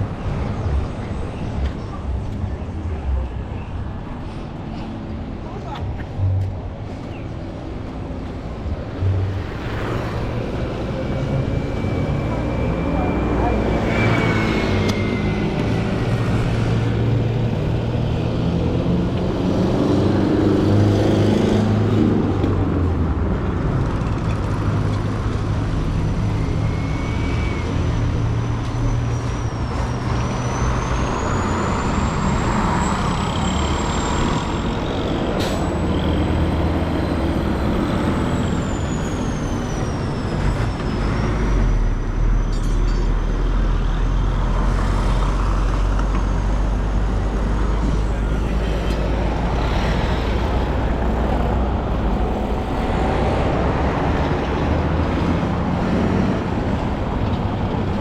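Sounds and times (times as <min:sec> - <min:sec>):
heavy vehicle engines running: 0:00.0 - 0:58.0.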